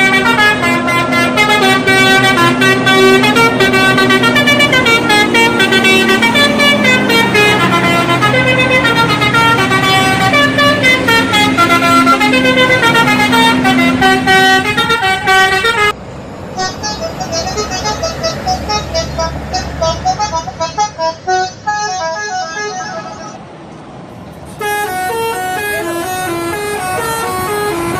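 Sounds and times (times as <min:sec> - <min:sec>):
multi-tone bus horn melody: 0:00.0 - 0:23.4, 0:24.5 - 0:27.9.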